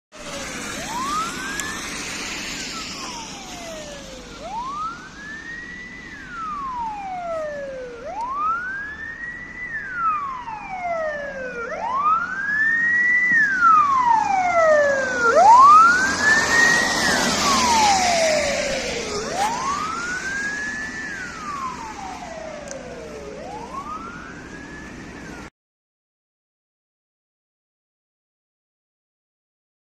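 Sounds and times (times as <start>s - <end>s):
ambulance wail siren: 0.1s - 25.5s.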